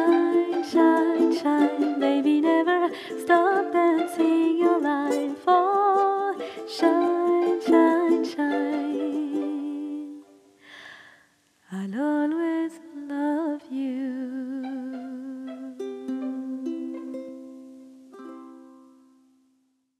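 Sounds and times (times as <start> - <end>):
slow ukulele music: 0.0 - 10.6, 13.2 - 19.6.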